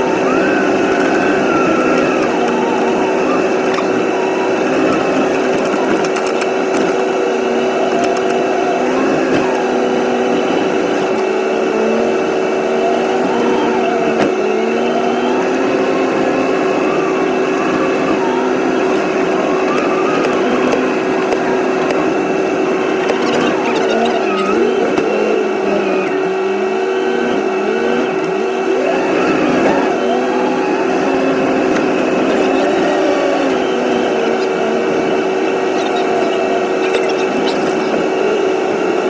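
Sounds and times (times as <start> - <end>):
vehicle engine whining: 0.0 - 39.0.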